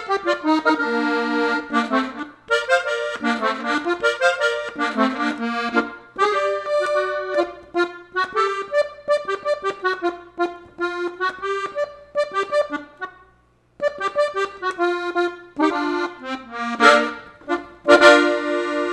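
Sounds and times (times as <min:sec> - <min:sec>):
button accordion lively melody: 0:00.0 - 0:18.9.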